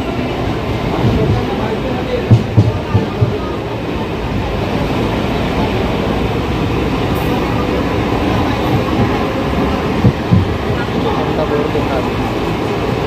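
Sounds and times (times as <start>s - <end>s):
electric train running on rails: 0.0s - 13.0s.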